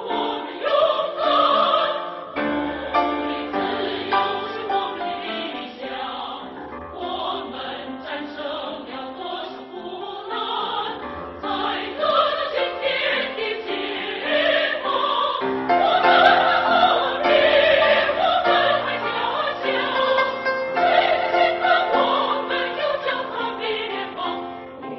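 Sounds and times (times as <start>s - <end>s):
choral singing: 0.0s - 24.9s.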